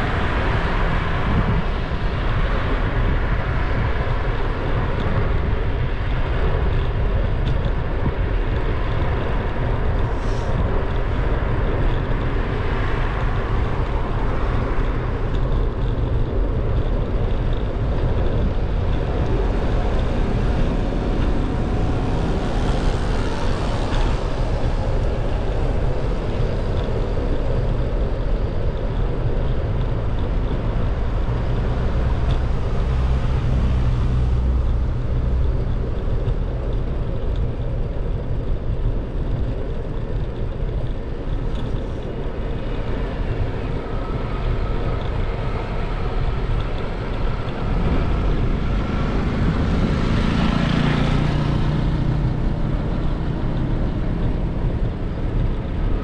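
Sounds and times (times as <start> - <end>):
low road rumble: 0.0 - 56.0
wind buffeting microphone: 0.0 - 56.0.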